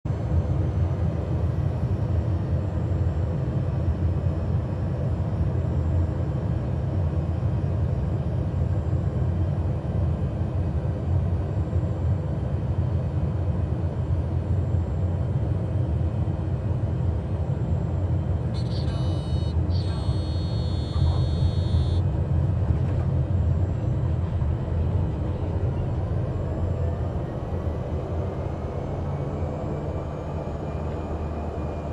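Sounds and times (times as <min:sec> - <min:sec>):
turboprop engine running: 0:00.0 - 0:31.9.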